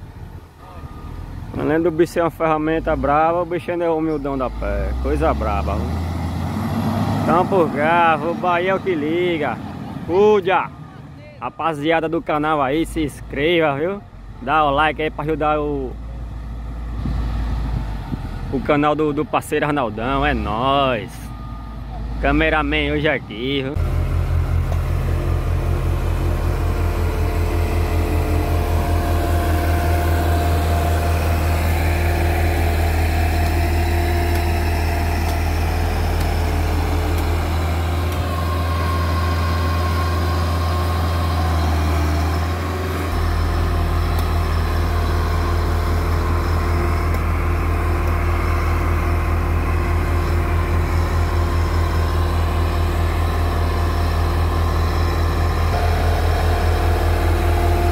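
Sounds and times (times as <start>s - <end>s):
diesel engine low hum: 0.0s - 57.9s.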